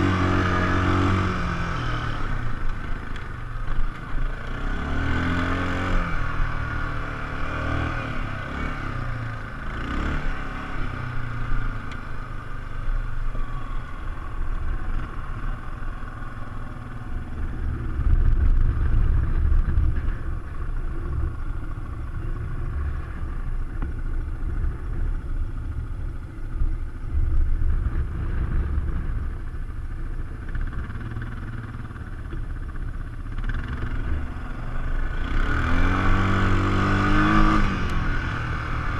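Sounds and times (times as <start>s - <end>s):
atv engine running: 0.0s - 38.9s
heavy low rumble: 0.0s - 38.9s.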